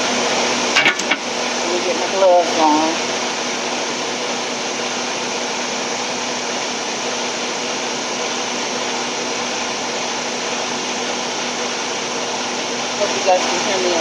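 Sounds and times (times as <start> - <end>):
machinery droning: 0.0 - 14.0.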